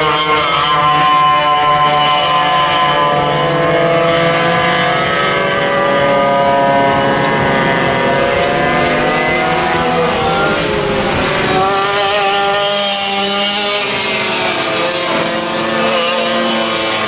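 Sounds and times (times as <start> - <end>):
go-kart engines revving: 0.0 - 17.0.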